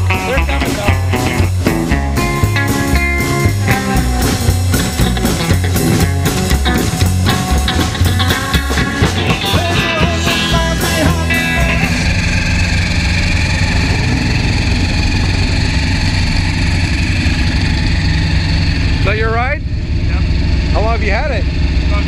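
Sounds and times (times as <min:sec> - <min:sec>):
car engine idling: 0:00.0 - 0:22.0
rock guitar music: 0:00.0 - 0:22.0.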